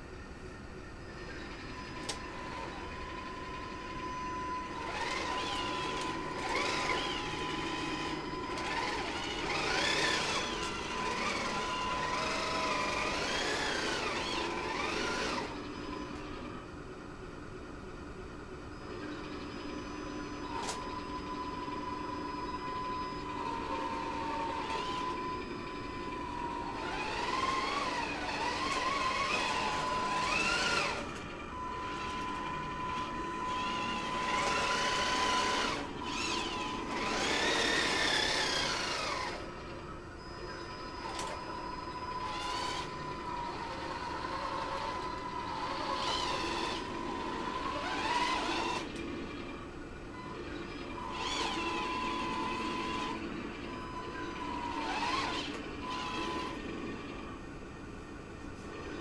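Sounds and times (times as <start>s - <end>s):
toy motor whine: 1.2s - 16.2s, 19.1s - 39.5s, 40.2s - 49.0s, 50.2s - 56.6s.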